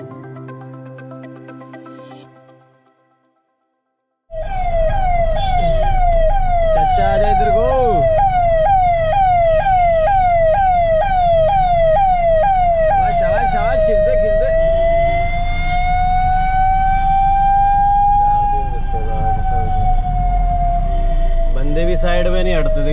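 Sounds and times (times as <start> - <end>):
ambulance siren: 4.3 - 22.9
road noise rumble: 4.4 - 22.9.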